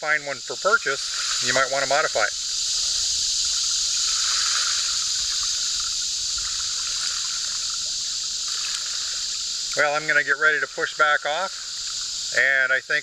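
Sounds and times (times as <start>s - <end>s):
insects chorus: 0.0s - 13.0s
water lapping at shoreline: 0.0s - 13.0s.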